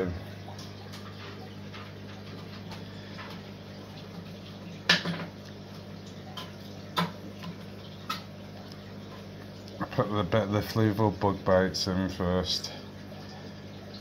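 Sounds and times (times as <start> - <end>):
aquarium pump humming: 0.0 - 14.0
faint water movement: 0.0 - 14.0.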